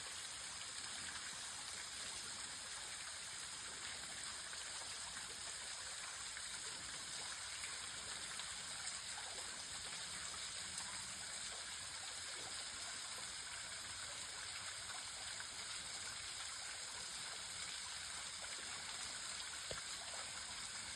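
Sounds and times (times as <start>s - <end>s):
waterfall trickling and splashing: 0.0s - 20.9s.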